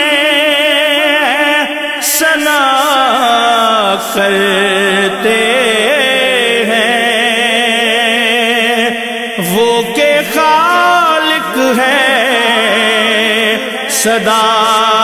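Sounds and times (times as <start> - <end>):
solo voice chanting: 0.0 - 15.0.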